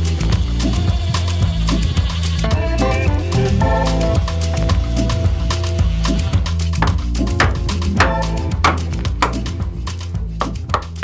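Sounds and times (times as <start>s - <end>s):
music with bass and drums: 0.0s - 11.0s.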